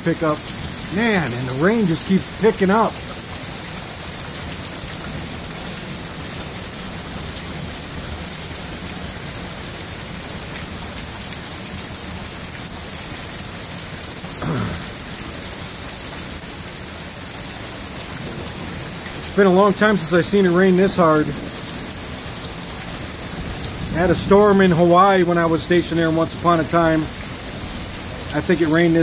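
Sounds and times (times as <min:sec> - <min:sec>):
heavy rain hissing: 0:00.0 - 0:29.0
water spilling from gutters: 0:00.0 - 0:29.0.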